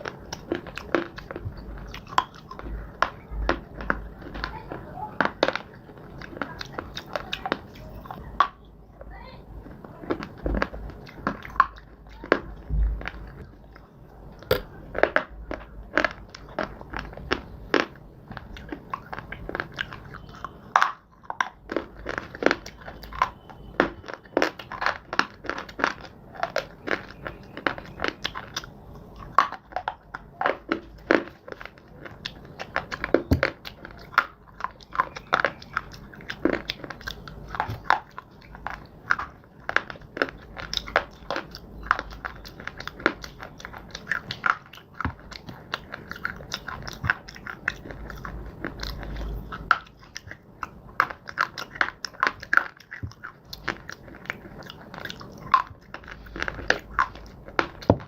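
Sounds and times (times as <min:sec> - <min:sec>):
chewing crunchy clay chunks: 0:00.0 - 0:58.0.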